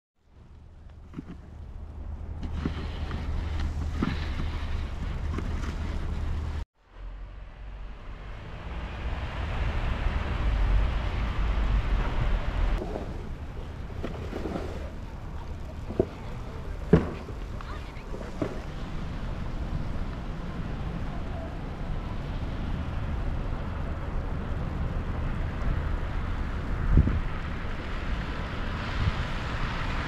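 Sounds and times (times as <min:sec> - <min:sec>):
outdoor rushing noise: 0:00.2 - 0:30.0
wind rumbling on microphone: 0:00.2 - 0:30.0.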